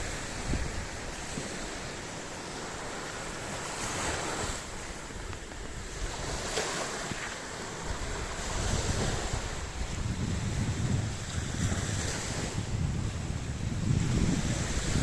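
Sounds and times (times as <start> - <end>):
sea waves washing onto shore: 0.0 - 15.0
wind rumbling on microphone: 0.0 - 15.0.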